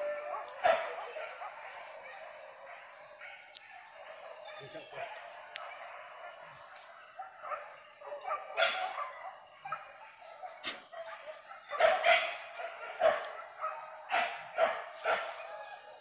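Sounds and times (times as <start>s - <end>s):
hunting dogs barking: 0.0s - 16.0s.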